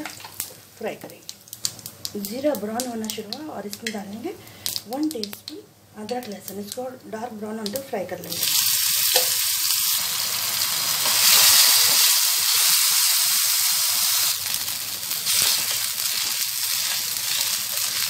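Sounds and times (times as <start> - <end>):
paste frying in hot oil: 0.0 - 6.8, 7.6 - 18.0.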